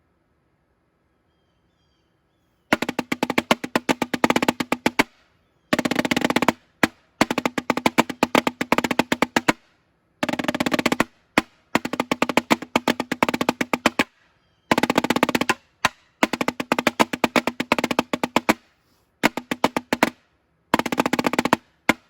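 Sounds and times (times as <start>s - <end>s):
snare drum rapid strokes: 2.7s - 22.0s.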